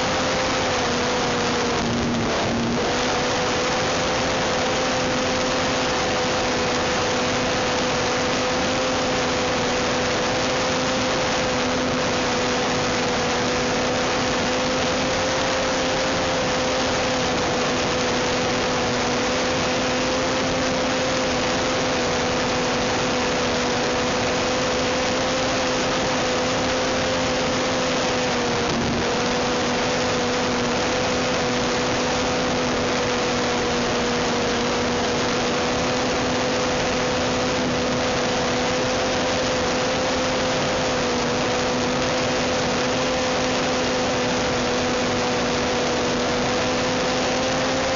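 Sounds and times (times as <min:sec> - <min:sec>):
model plane engine buzzing: 0:00.0 - 0:47.9.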